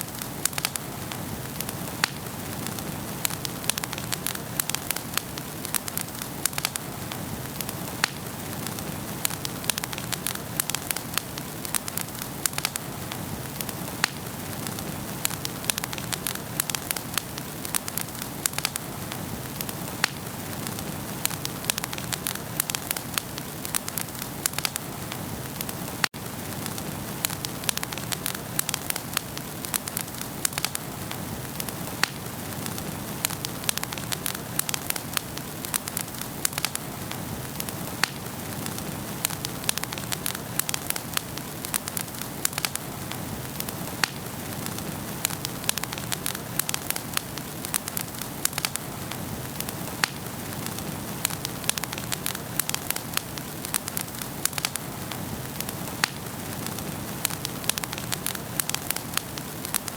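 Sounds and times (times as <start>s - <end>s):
fire hissing: 0.0s - 59.9s
logs crackling and popping: 0.0s - 59.9s.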